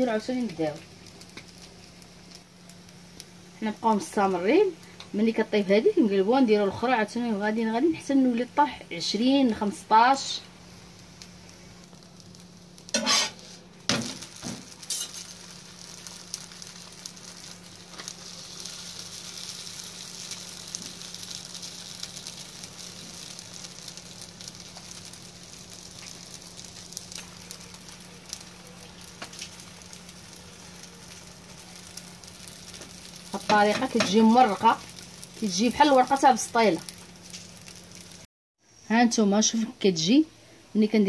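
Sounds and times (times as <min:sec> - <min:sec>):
dough sizzling on a griddle: 0:00.0 - 0:41.0.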